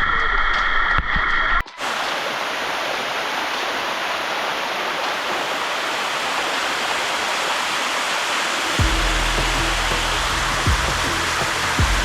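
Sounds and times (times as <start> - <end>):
waterfall rushing: 1.8 - 12.0.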